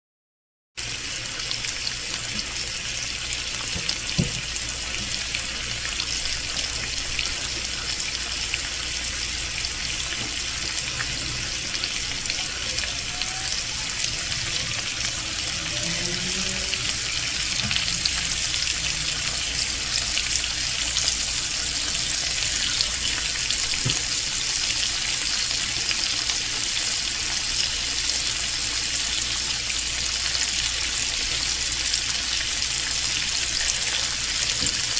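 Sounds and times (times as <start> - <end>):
bacon sizzling in a pan: 0.8 - 34.9.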